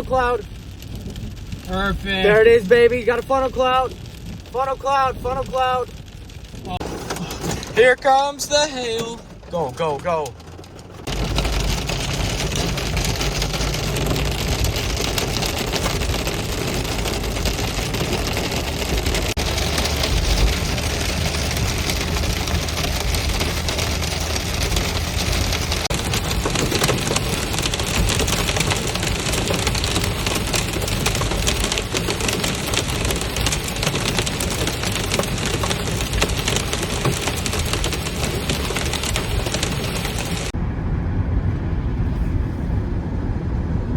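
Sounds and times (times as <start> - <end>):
hail and rain on car roof: 0.0 - 40.6.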